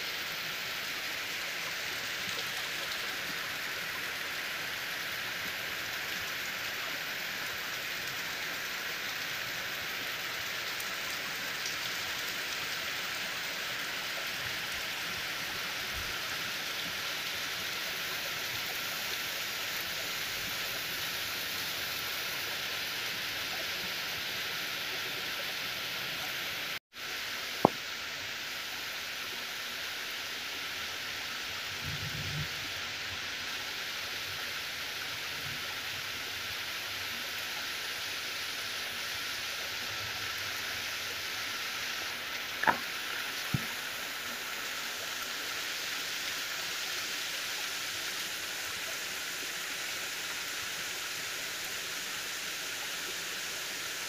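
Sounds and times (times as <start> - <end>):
heavy rain on trees: 0.0 - 54.0.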